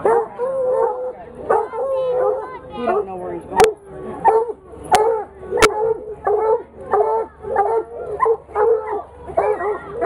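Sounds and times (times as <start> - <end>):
hounds barking and bawling: 0.0 - 10.0.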